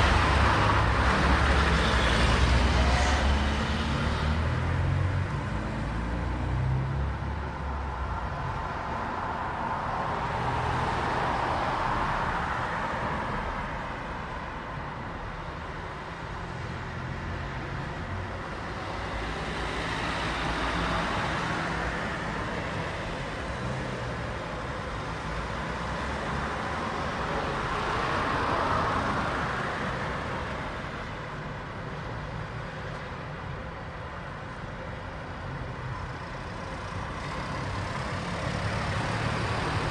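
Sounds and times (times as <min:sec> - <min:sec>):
street traffic rumble: 0:00.0 - 0:39.9
vehicles passing: 0:00.0 - 0:39.9.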